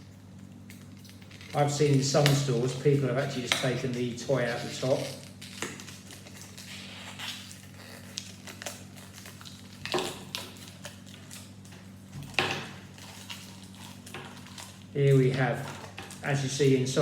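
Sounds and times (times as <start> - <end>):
plastic crinkling: 0.2 - 16.9.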